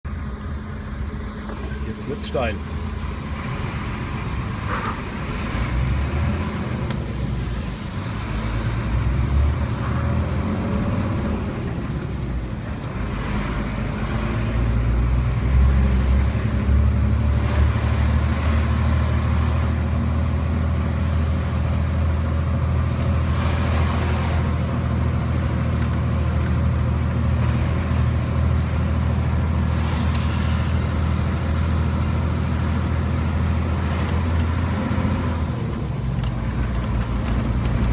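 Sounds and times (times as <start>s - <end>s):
diesel truck engine working hard: 0.1s - 37.9s.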